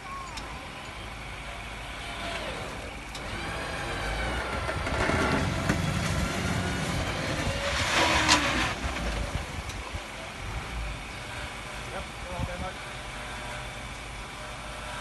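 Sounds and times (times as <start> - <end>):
vehicle engines running: 0.0 - 15.0
winch whine: 0.0 - 15.0.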